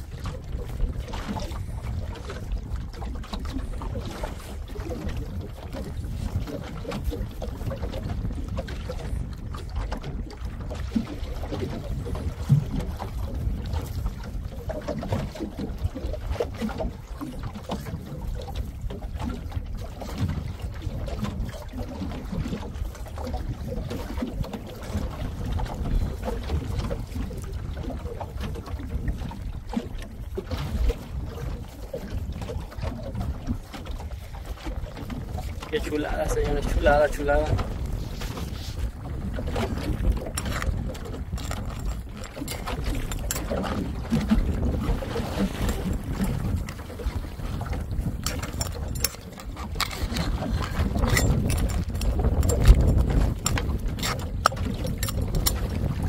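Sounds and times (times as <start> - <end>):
water lapping against boat hull: 0.0 - 56.0
wind on microphone: 0.0 - 56.0.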